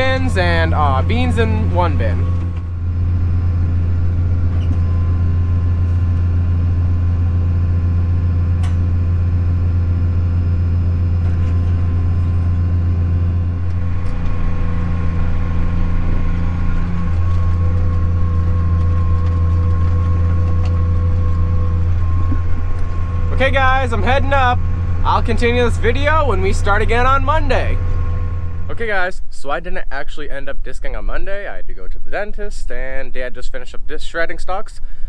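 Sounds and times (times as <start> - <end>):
tractor engine drone: 0.0 - 32.2
steady whine: 0.0 - 33.0.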